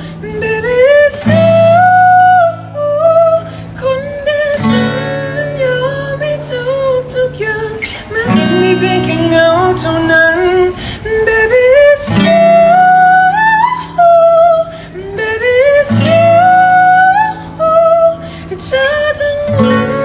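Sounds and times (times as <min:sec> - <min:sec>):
man singing: 0:00.0 - 0:20.0
strummed acoustic guitar: 0:00.0 - 0:20.0.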